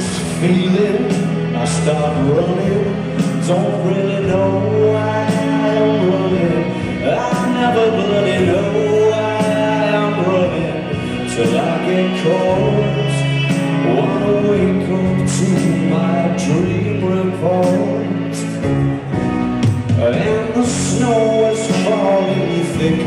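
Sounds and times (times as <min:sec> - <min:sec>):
live rock band playing: 0:00.0 - 0:23.0
person singing: 0:00.0 - 0:23.0.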